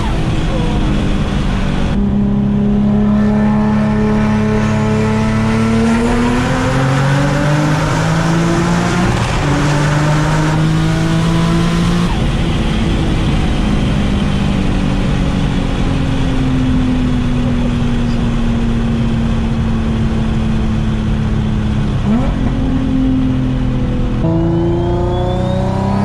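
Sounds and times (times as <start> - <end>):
turbocharged car engine accelerating: 0.0 - 26.0.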